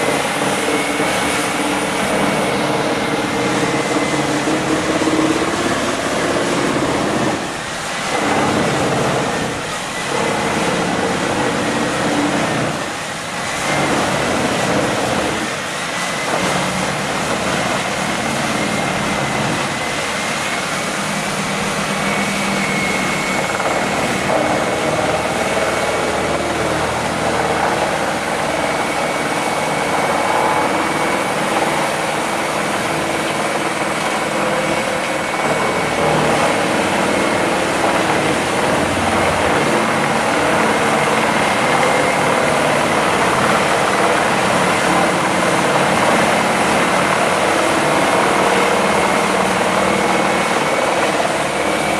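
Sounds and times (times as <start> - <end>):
heavy machine engine drone: 0.0 - 51.9
thin steady whine: 0.0 - 51.9.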